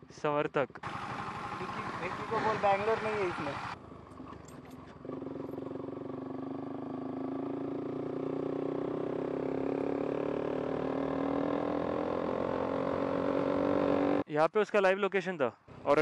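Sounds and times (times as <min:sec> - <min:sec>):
motorcycle engine accelerating: 0:00.7 - 0:14.2.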